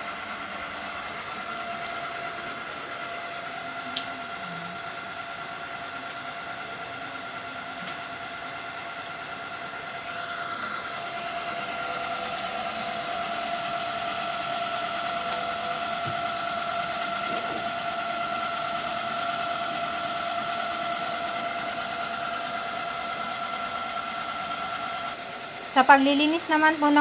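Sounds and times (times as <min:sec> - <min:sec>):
constant whine: 0:00.0 - 0:27.0
printer machine hum: 0:00.0 - 0:27.0.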